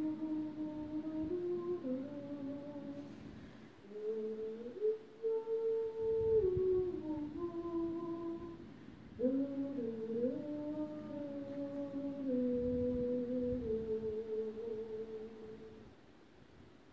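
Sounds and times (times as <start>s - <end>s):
woman humming a lullaby: 0.0s - 3.2s, 3.8s - 15.9s.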